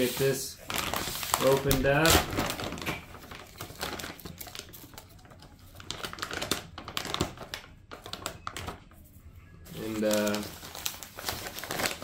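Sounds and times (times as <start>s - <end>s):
plastic bag crinkling: 0.0s - 9.0s, 9.6s - 12.0s.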